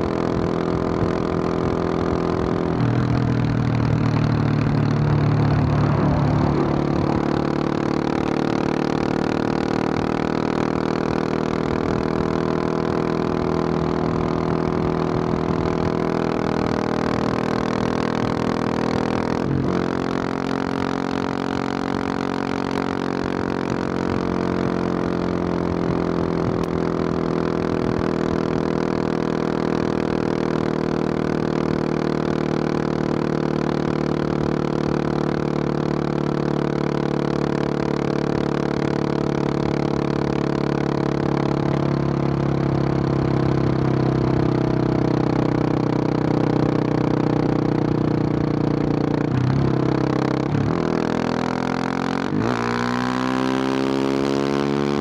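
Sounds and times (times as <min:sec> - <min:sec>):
motorcycle engine under throttle: 0:00.0 - 0:55.0.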